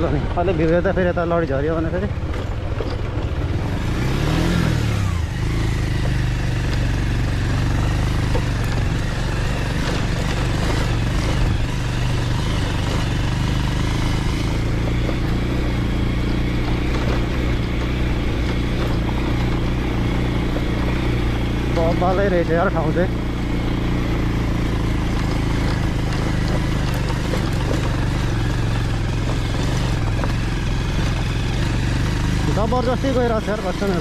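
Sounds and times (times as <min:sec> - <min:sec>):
tyres and parts rattling on stones: 0:00.0 - 0:04.0, 0:06.0 - 0:34.0
motorcycle engine running: 0:00.0 - 0:34.0.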